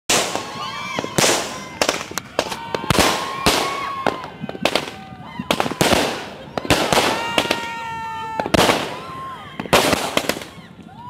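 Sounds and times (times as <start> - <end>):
fireworks banging: 0.1 - 10.9
fireworks whistling: 0.1 - 10.9.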